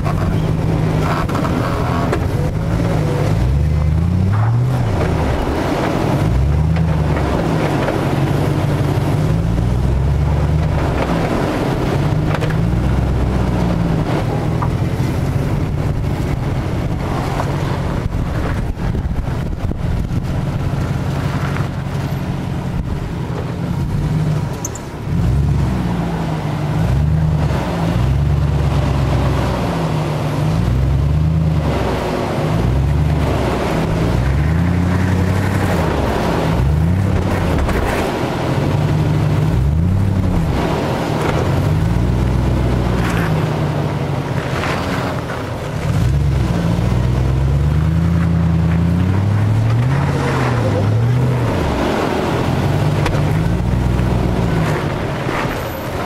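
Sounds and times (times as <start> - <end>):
engine revving at crawling speed: 0.0 - 56.0.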